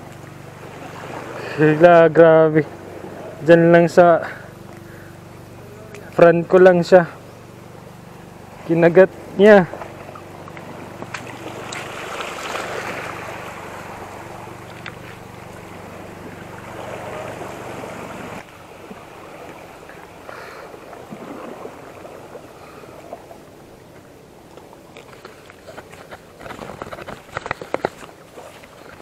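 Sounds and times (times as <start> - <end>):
seawater splashing over rocks: 0.0 - 29.0.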